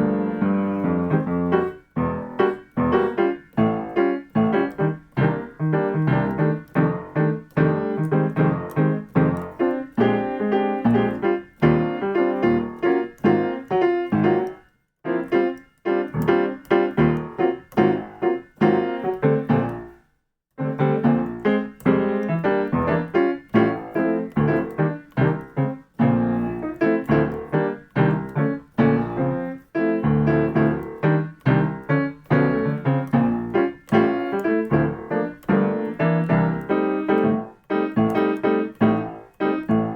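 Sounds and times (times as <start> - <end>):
piano jazz chord stabs: 0.0 - 20.0, 20.6 - 39.9.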